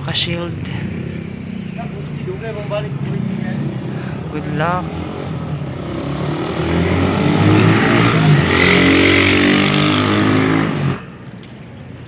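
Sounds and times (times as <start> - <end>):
motorcycle engine passing: 0.8 - 11.0.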